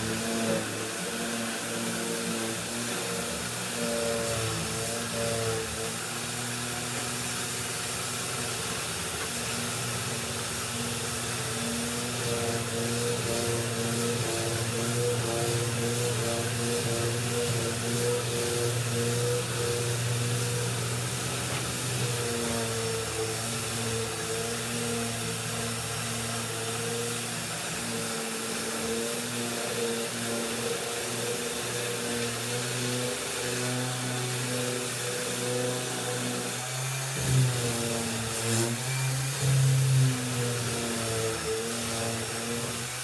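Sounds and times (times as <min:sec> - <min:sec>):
electric sander and vacuum humming: 0:00.0 - 0:43.0
sander bumps: 0:00.0 - 0:43.0.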